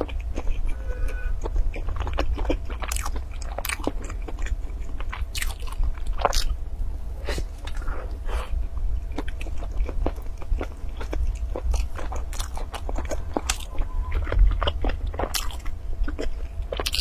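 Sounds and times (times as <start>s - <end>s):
crunchy bread being eaten: 0.0s - 6.6s, 9.1s - 17.0s.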